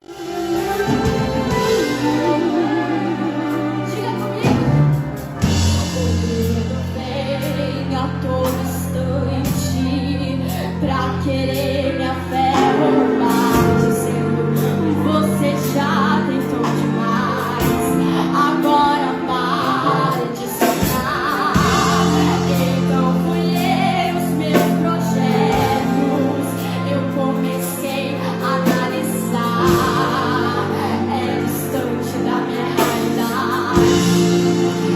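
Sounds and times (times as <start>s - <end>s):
band playing: 0.0s - 34.9s
choir of backing voices: 0.0s - 34.9s
woman singing: 0.0s - 34.9s.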